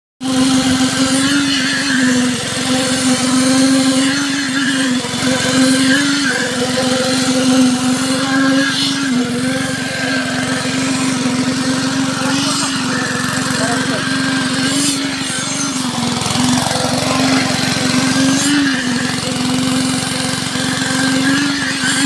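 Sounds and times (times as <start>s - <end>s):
concrete vibrator humming: 0.2s - 22.0s.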